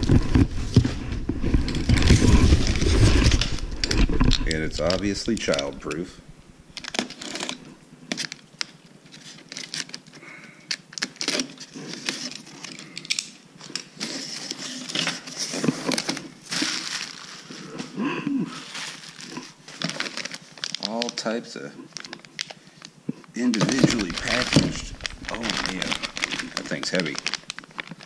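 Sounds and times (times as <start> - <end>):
plastic and bubble wrap rustling: 0.0 - 6.1, 6.8 - 28.0.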